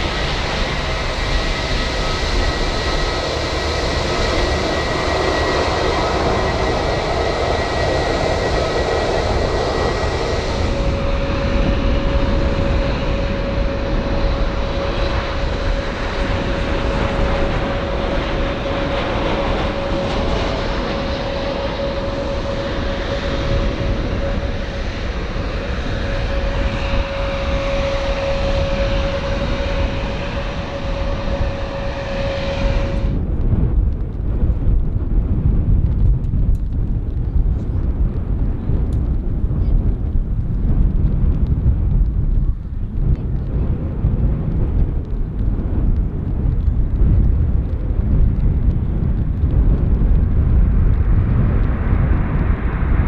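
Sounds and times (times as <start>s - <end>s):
airliner engines running: 0.0s - 53.0s
low wind-like rumble: 0.0s - 53.0s.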